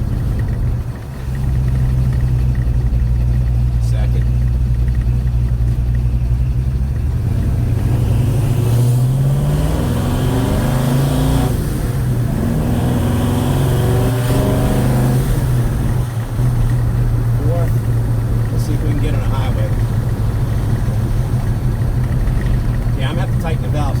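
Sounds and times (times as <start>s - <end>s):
car engine accelerating through gears: 0.0s - 24.0s.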